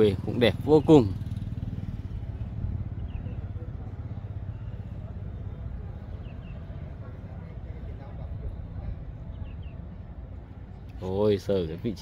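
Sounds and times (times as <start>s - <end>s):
engine running with pulsing rumble: 0.0s - 11.0s.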